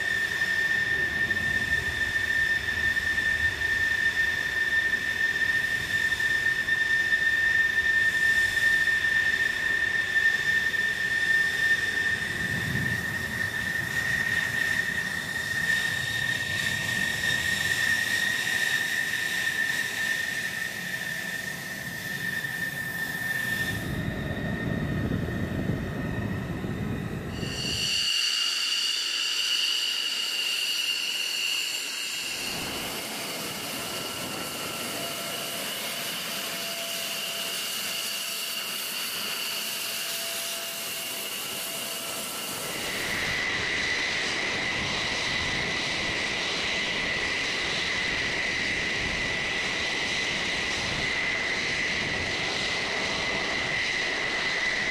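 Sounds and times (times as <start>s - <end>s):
jet engine rushing hiss: 0.0s - 54.9s
jet engine turbine whine: 0.0s - 54.9s.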